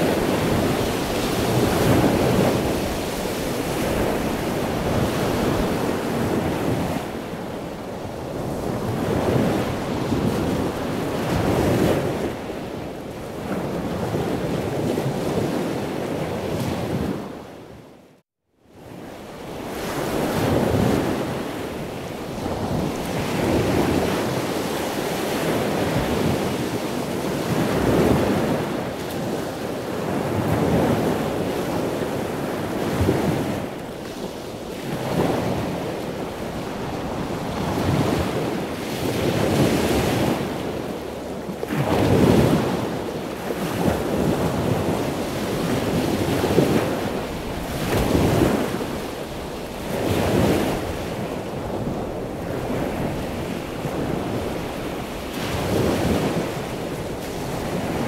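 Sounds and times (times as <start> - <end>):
ocean surf breaking: 0.0 - 17.3, 19.4 - 58.0.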